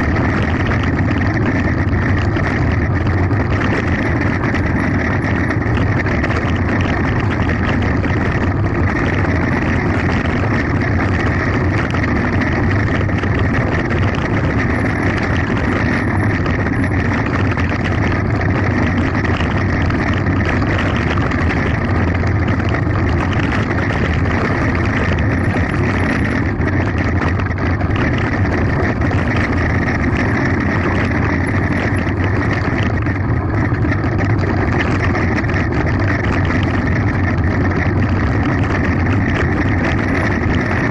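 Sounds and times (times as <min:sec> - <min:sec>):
bike tyres on gravel: 0:00.0 - 0:40.9
wind on microphone: 0:00.0 - 0:40.9.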